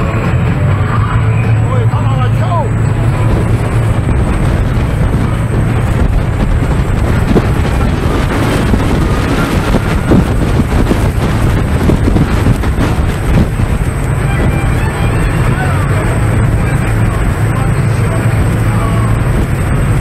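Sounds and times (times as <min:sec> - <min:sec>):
boat engine: 0:00.0 - 0:20.0
water rushing: 0:00.0 - 0:20.0
wind on microphone: 0:00.0 - 0:20.0.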